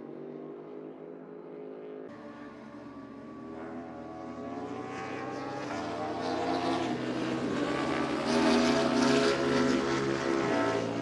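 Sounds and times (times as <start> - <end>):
superbike engine at high revs: 2.1 - 11.0.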